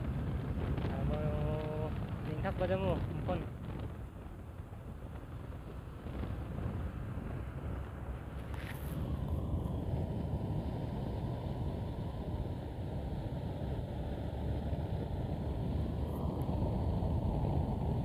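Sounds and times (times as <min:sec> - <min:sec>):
motorcycle riding at speed: 0:00.0 - 0:18.0
wind on microphone: 0:00.0 - 0:18.0.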